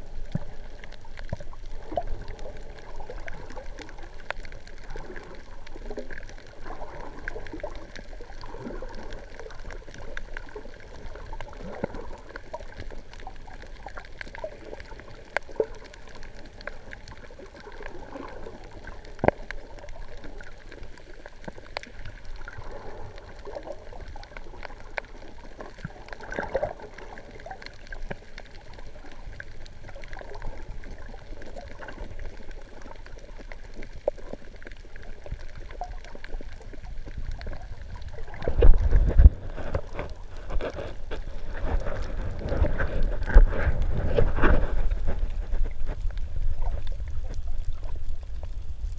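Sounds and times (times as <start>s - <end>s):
muffled water sloshing underwater: 0.0s - 48.9s.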